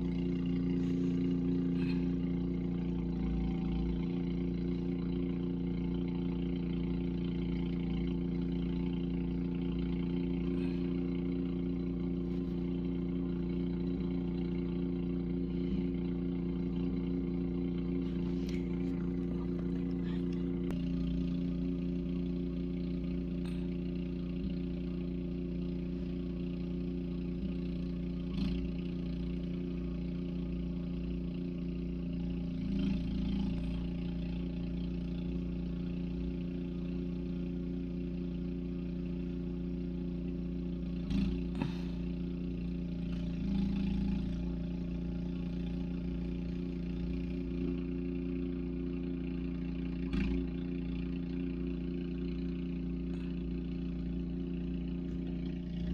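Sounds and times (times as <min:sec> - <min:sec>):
steady motor drone: 0:00.0 - 0:55.9.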